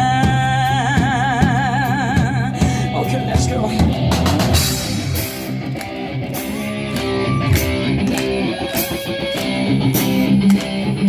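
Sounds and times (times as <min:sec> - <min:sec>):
steady drum beat: 0:00.0 - 0:10.8
held guitar notes: 0:01.1 - 0:11.0.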